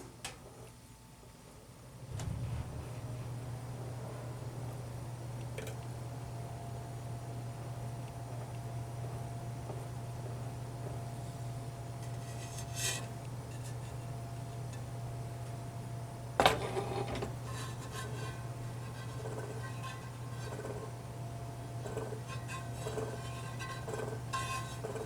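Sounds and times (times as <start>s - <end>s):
steady low hum: 0.9s - 25.0s.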